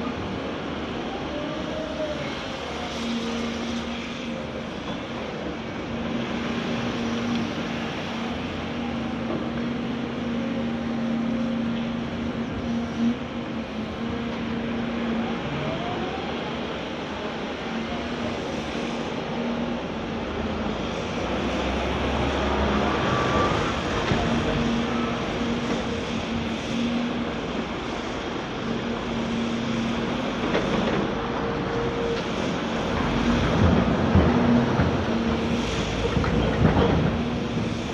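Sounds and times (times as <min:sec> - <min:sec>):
excavator diesel engine drone: 0:00.0 - 0:37.9
faint hydraulic whines: 0:00.0 - 0:37.9.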